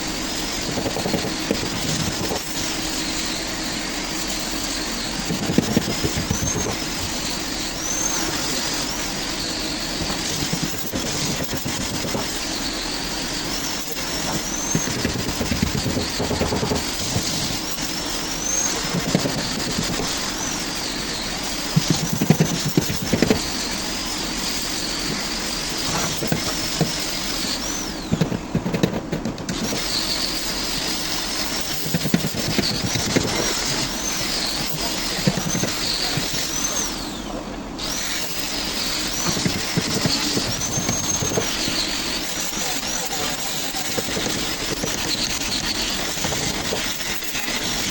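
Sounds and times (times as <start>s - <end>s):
power tool cutting fiberglass: 4.4s - 37.0s, 37.8s - 47.9s.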